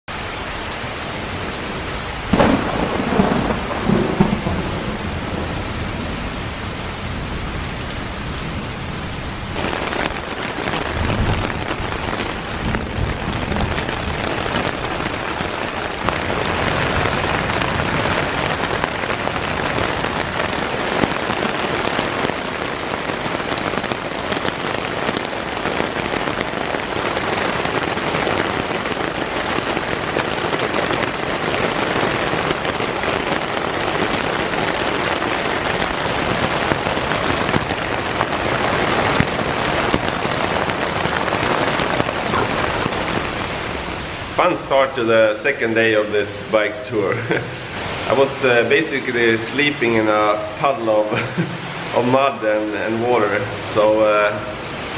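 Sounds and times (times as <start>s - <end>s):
rain pouring on tent fabric: 0.1s - 54.9s
thunder rumbling: 0.9s - 45.4s.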